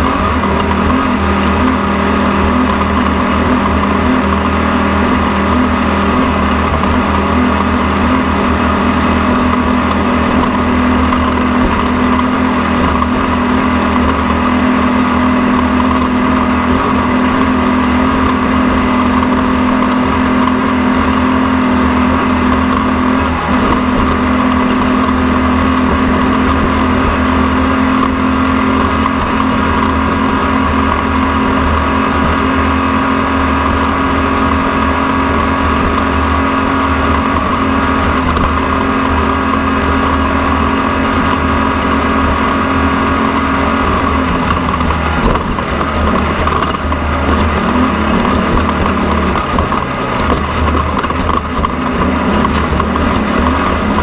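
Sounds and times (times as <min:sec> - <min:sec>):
motor droning: 0:00.0 - 0:54.0.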